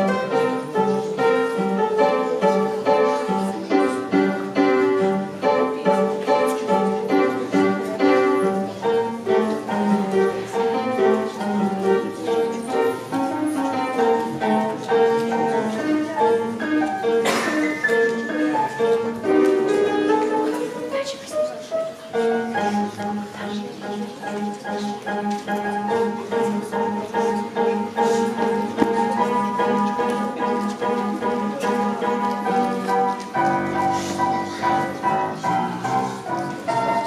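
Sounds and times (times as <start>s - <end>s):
piano playing: 0.0s - 37.0s.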